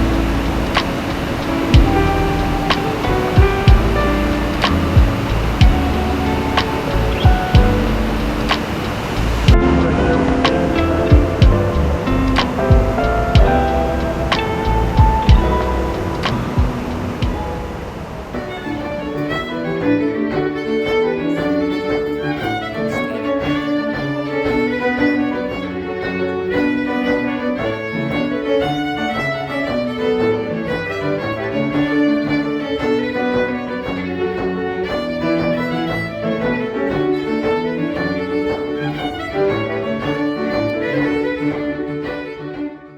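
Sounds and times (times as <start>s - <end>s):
fiddle playing lively folk tune: 0.0s - 42.9s
lower accompaniment: 0.0s - 42.9s.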